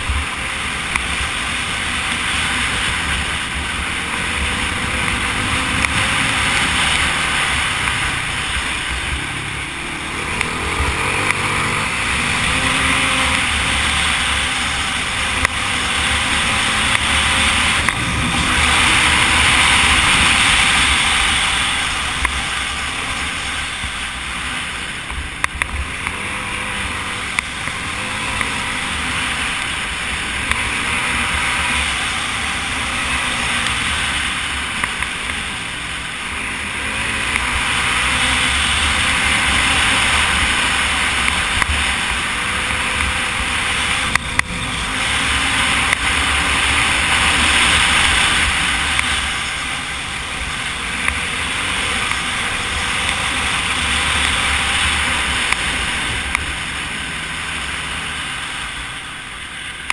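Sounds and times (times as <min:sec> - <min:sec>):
quad engine revving: 0:00.0 - 0:58.9.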